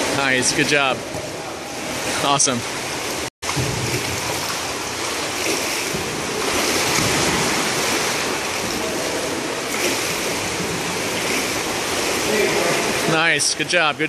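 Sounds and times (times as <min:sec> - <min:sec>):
water rushing and splashing in pool: 0:00.0 - 0:14.0.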